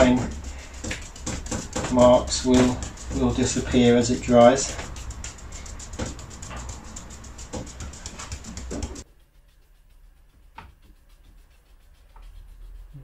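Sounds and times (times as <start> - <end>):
brush swishing over glaze: 0.0 - 13.0.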